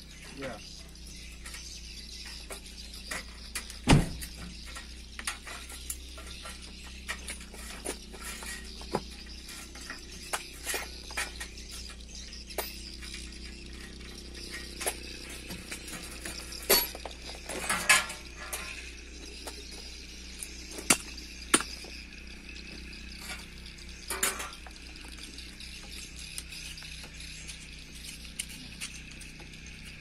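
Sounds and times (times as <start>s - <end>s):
metal rattle: 3.0s - 30.0s
metal tools clinking: 4.6s - 30.0s.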